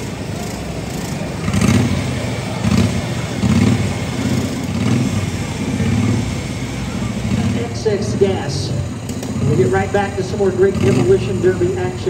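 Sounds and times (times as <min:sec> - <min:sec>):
lawn mower engines revving: 0:00.0 - 0:12.0.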